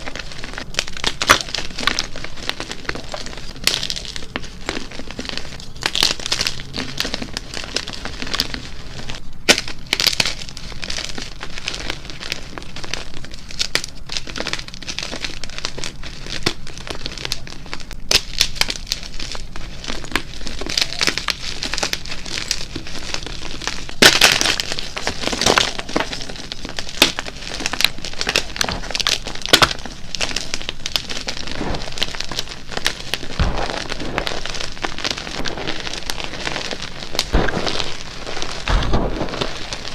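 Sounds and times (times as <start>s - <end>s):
chalk crunching: 0.0s - 39.9s.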